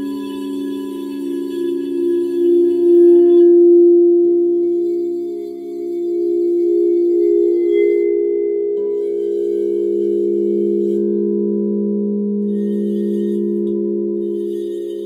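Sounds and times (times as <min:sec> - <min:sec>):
higher bowl ring: 0:00.0 - 0:15.0
singing bowls ringing: 0:00.0 - 0:15.0.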